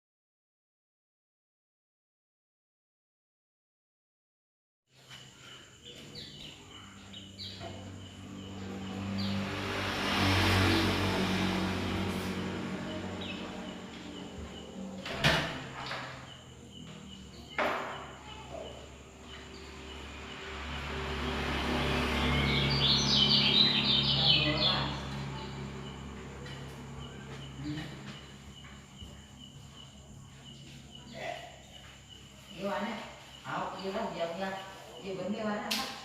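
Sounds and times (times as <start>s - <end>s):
songbird chirping: 4.9s - 36.0s.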